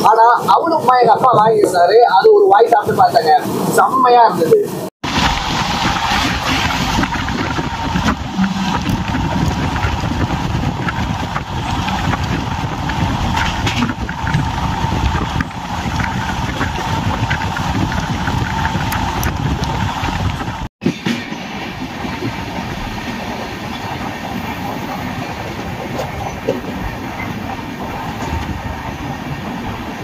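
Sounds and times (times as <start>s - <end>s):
train coaches rumbling: 0.0s - 30.0s.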